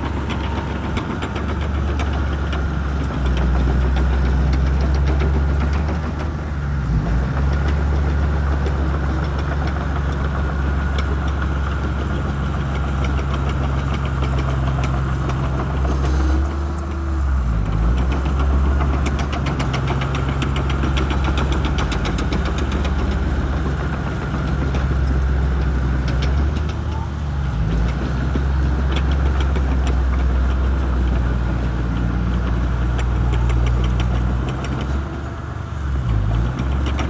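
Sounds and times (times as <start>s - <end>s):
bulldozer diesel engine running: 0.0s - 37.0s.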